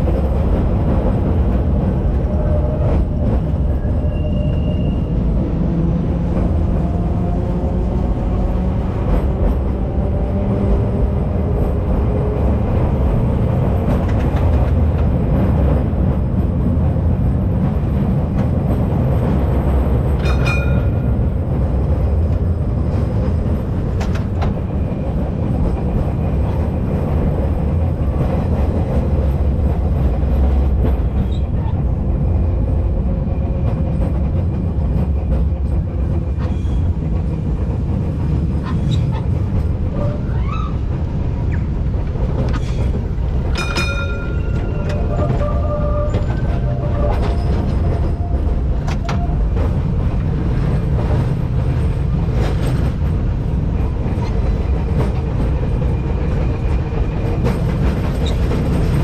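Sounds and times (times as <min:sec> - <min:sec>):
tram wheels rumbling on rail: 0:00.0 - 0:59.0.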